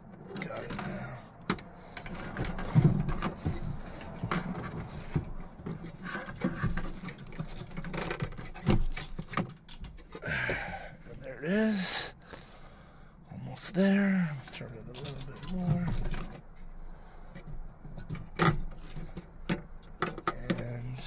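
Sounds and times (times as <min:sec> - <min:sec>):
plastic knocks and scraping: 0:00.0 - 0:11.2, 0:14.4 - 0:21.0.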